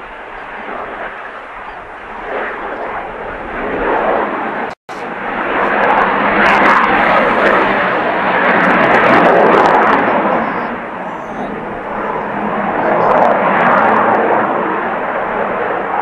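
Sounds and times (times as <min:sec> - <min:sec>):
jet aircraft flypast roar: 0:00.0 - 0:16.0.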